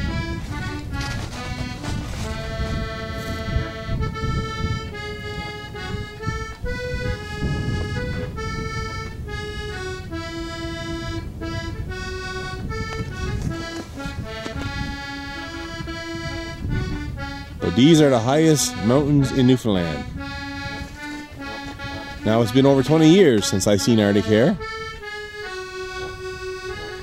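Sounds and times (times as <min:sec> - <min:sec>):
low uneven rumble: 0:00.0 - 0:23.8
instrumental music: 0:00.0 - 0:27.0.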